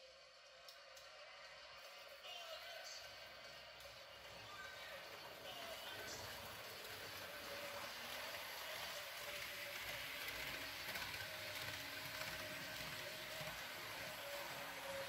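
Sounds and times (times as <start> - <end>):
thin motor whine: 0.0 - 15.0
model train wheels rattling: 0.7 - 15.0.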